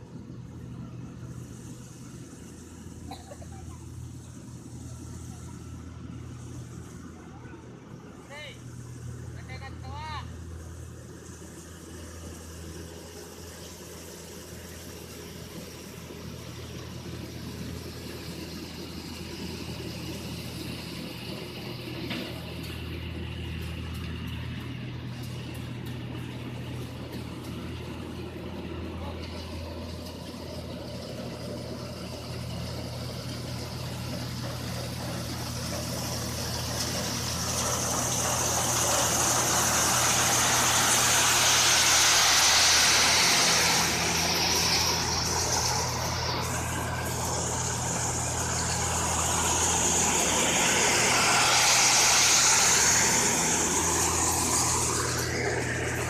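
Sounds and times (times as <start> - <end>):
combine harvester engine running: 0.0 - 56.0
high whine and hiss: 0.0 - 56.0.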